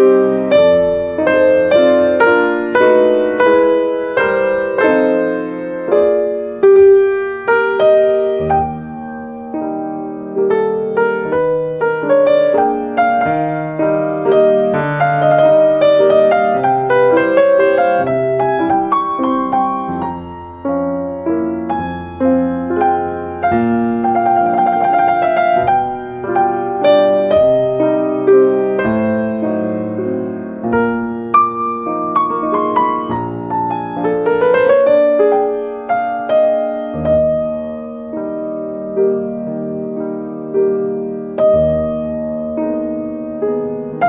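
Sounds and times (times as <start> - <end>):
slow solo piano: 0.0 - 44.0.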